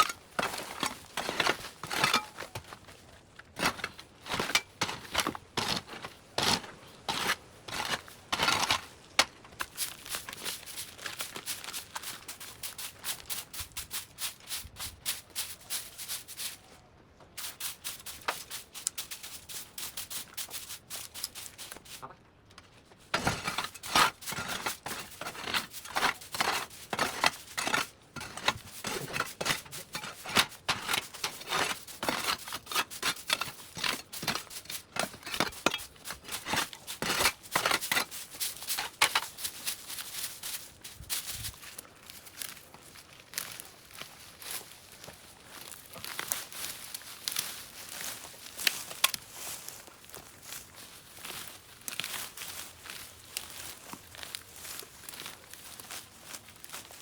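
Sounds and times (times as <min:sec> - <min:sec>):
vines and brush being cut: 0:00.0 - 0:02.9, 0:03.6 - 0:16.7, 0:17.4 - 0:22.0, 0:23.1 - 0:57.0.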